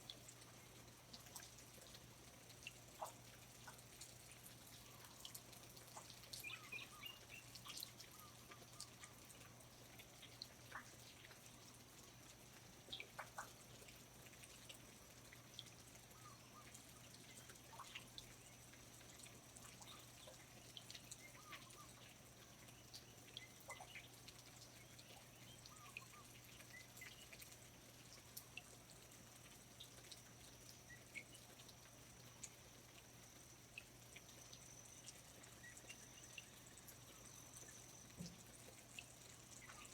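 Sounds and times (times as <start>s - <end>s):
water dripping: 0.0s - 39.9s.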